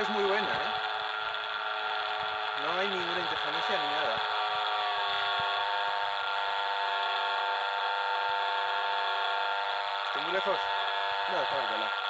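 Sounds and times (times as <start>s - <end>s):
electric motor propeller whine: 0.0s - 12.0s.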